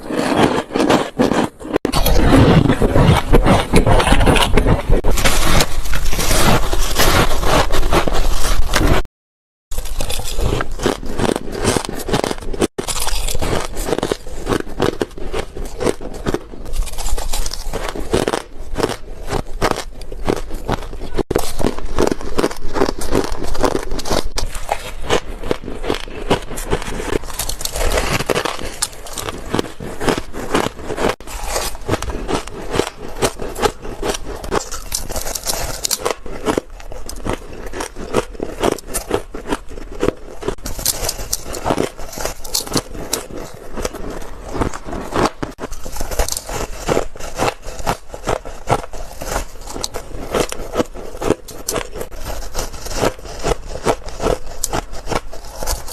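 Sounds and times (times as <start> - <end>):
frost being chewed crunching: 0.0 - 9.0, 9.7 - 55.9.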